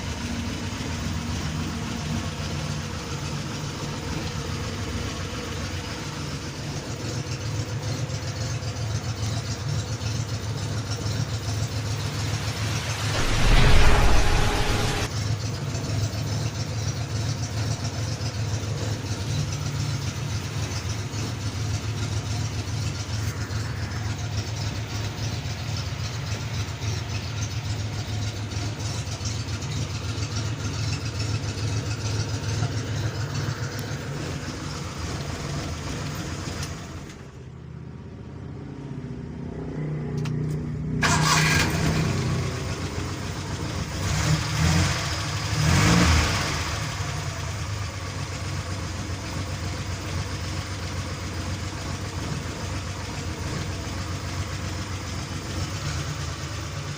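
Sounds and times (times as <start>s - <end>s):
pickup engine running: 0.0s - 14.7s, 16.0s - 37.5s, 44.8s - 56.9s.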